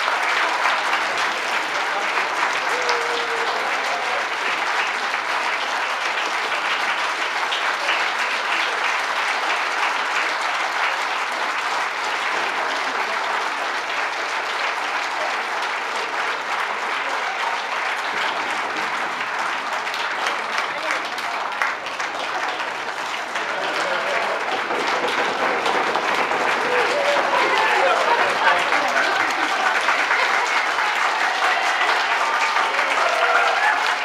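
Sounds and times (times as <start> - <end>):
large audience applauding: 0.0 - 34.0.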